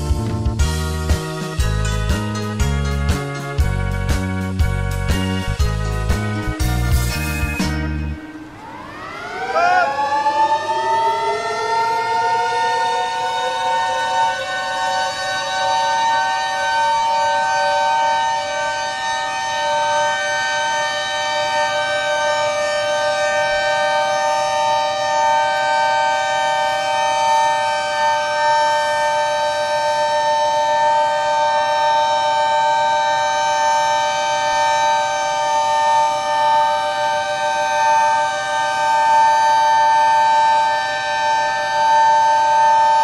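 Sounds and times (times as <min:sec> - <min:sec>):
siren wailing: 0:06.6 - 0:43.0.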